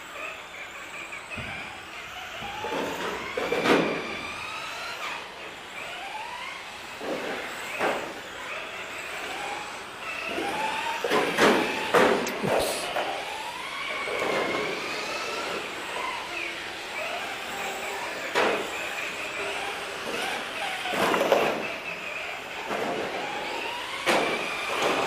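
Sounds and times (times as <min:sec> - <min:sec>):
rc car motor whining: 0:00.0 - 0:25.0.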